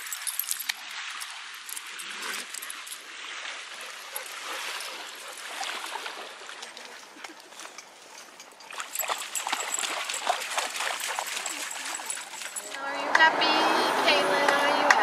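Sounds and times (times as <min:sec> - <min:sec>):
dog wading splashes: 0:00.0 - 0:12.9
river water lapping: 0:00.0 - 0:15.0.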